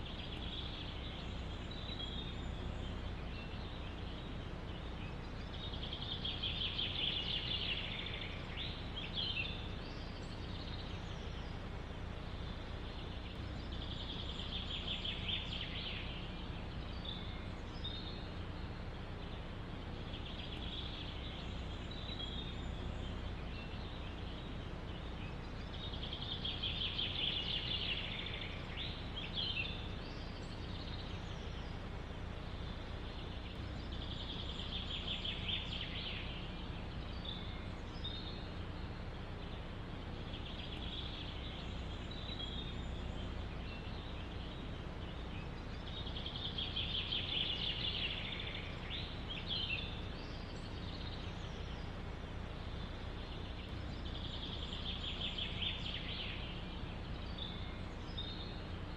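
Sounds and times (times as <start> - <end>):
low rumble of wind: 0.0 - 58.9.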